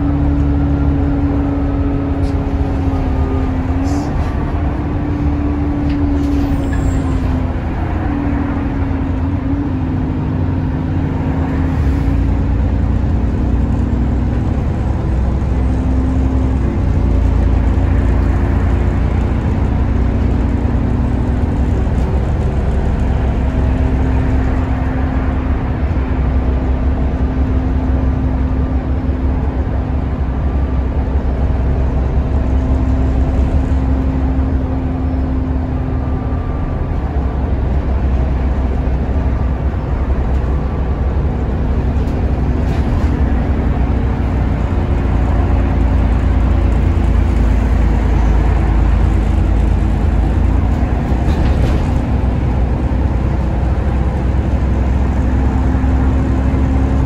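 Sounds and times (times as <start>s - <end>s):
bus engine and road drone: 0.0s - 57.0s.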